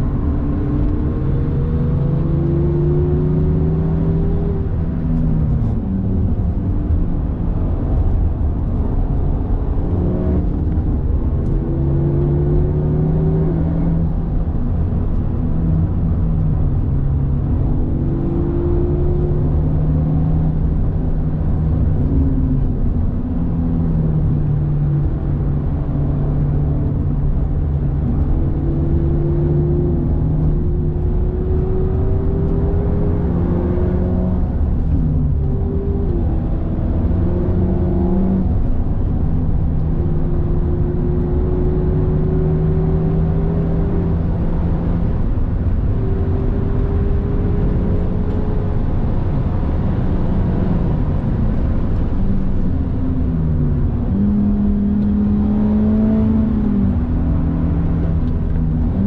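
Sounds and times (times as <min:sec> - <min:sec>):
car engine accelerating: 0:00.0 - 0:59.0
road and tyre noise: 0:00.0 - 0:59.0.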